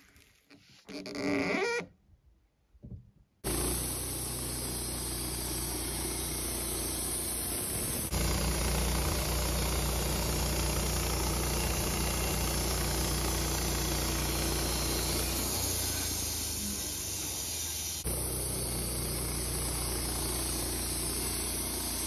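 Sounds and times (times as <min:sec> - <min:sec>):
bandsaw cutting through log: 0:03.4 - 0:22.0.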